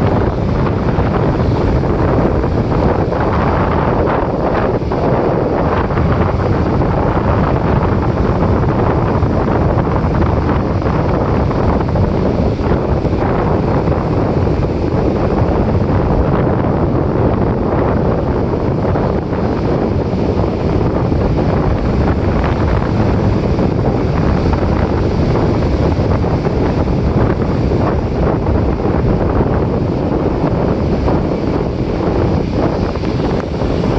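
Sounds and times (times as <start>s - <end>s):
surf washing onto a beach: 0.0s - 33.9s
wind buffeting the microphone: 0.0s - 33.9s.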